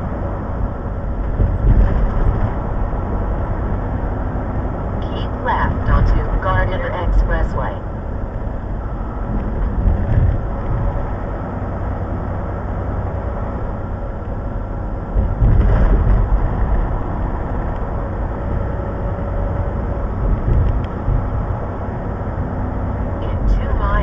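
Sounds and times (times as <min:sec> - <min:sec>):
loud rumble: 0:00.0 - 0:24.0
truck engine and road noise: 0:00.0 - 0:24.0.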